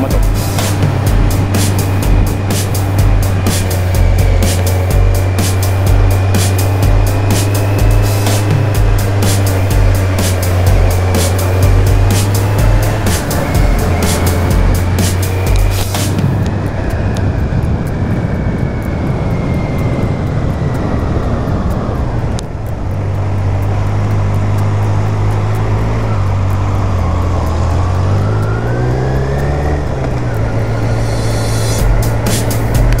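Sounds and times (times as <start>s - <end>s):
motorcycle engine running: 0.0s - 33.0s
riding noise rush: 0.0s - 33.0s.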